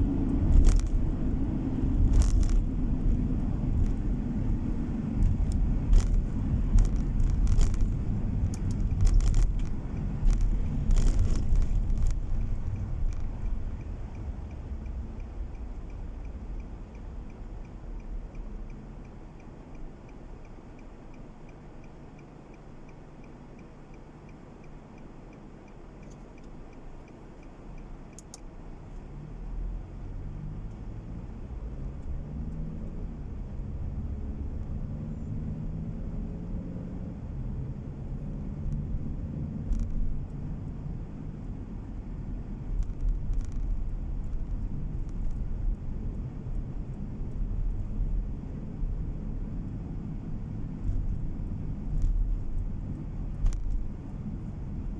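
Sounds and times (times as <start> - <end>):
car engine and road rumble: 0.0 - 54.9
faint regular ticking: 0.2 - 29.1, 38.1 - 54.9.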